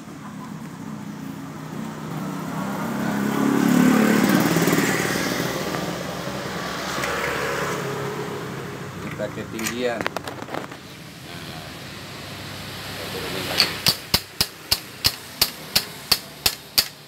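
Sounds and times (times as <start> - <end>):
motor vehicle passing by: 0.1 - 13.9.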